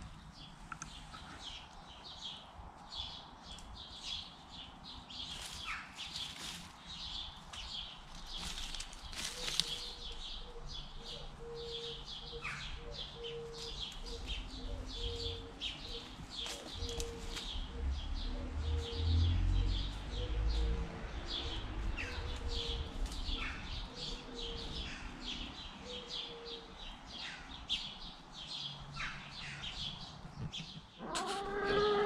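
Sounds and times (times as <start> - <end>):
songbirds chirping and singing: 0.0 - 32.0.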